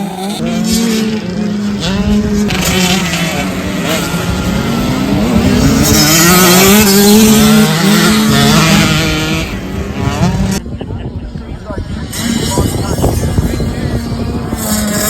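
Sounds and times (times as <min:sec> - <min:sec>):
small race engines accelerating: 0:00.0 - 0:15.0.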